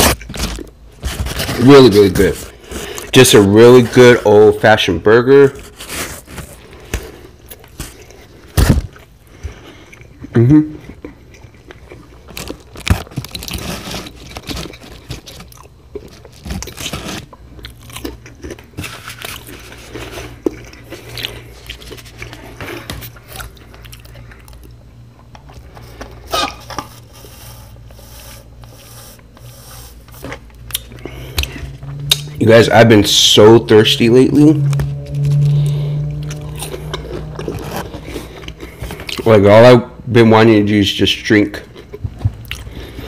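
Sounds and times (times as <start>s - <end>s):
person chewing and crunching food: 0.0s - 4.5s, 5.6s - 33.9s, 34.6s - 39.7s, 41.6s - 43.0s.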